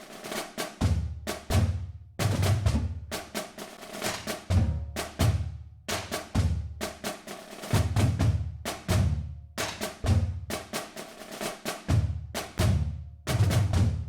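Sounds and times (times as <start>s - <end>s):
drum-heavy percussion music: 0.0s - 14.0s.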